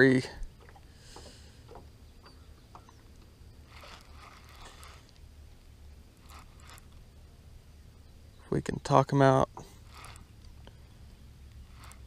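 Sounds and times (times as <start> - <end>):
fishing reel clicks and rustling: 0.0 - 7.2, 8.6 - 12.0.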